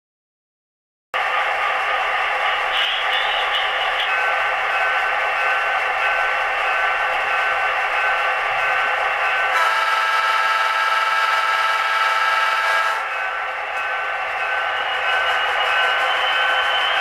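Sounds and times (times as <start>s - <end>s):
model locomotive engine sound from speaker: 1.2s - 17.0s.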